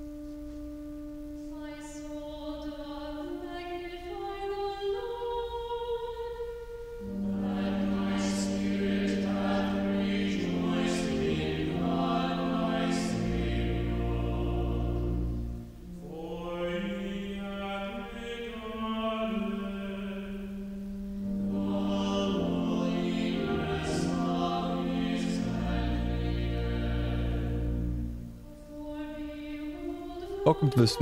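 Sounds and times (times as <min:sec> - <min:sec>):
solo sung line: 0:01.3 - 0:31.0
choir singing in harmony: 0:01.6 - 0:31.0.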